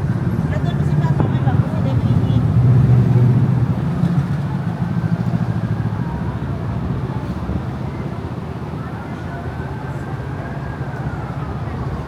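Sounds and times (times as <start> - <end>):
rumble of road traffic: 0.0 - 12.0.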